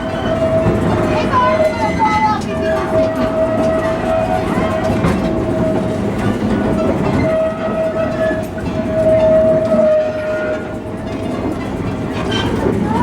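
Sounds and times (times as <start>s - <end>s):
train wheels clattering on rail: 0.0s - 13.0s.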